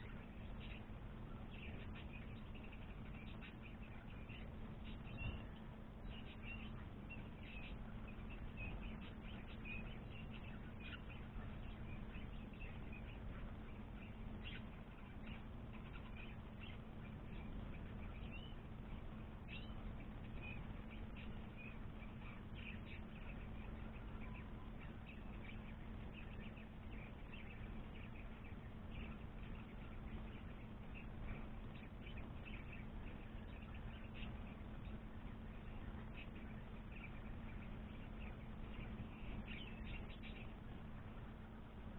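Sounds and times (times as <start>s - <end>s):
birds chirping and peeping: 0.0s - 41.9s
low electrical hum: 0.0s - 41.9s.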